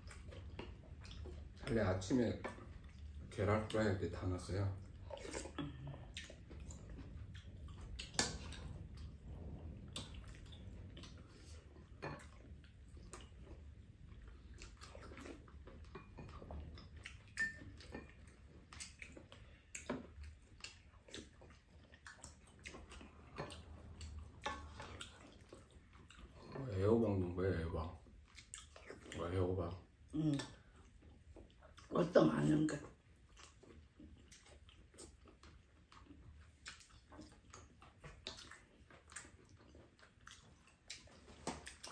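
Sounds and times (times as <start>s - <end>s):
quiet eating sounds: 0.0s - 41.9s.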